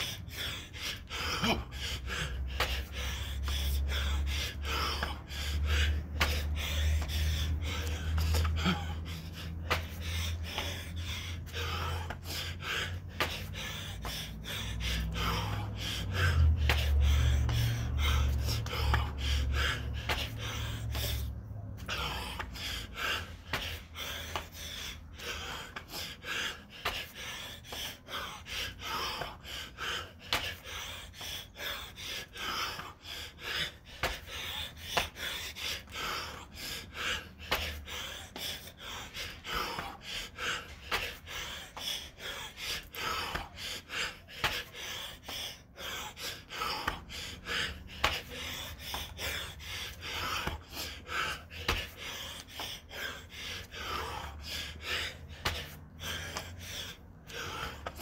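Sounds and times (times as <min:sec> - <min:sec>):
man breathing hard: 0:00.0 - 0:58.0.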